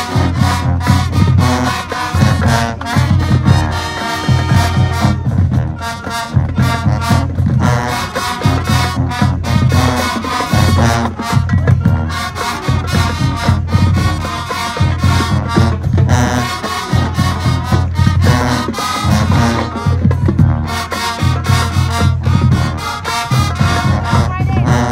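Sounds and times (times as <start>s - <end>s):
marching band playing: 0.0s - 24.9s
trumpets and trombones: 0.0s - 24.9s.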